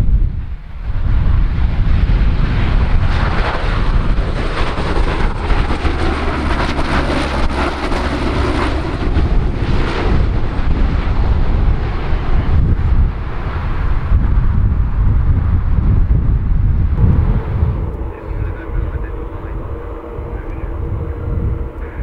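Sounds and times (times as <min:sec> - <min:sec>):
turboprop aircraft droning: 0:00.0 - 0:22.0.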